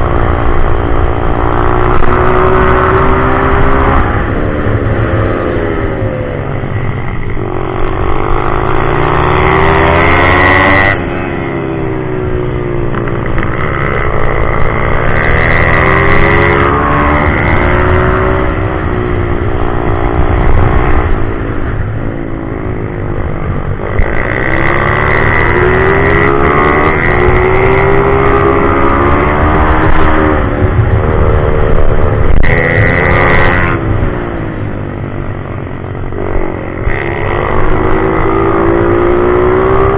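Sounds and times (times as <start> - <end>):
motorbike engine revving: 0.0 - 11.6, 13.0 - 39.9.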